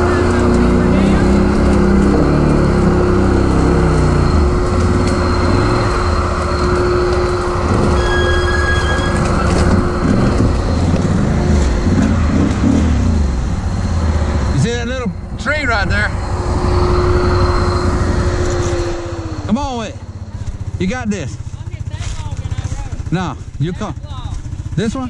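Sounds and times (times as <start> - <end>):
vehicle crawling over branches: 0.0 - 14.0, 16.2 - 25.0
atv engine running: 0.0 - 25.0.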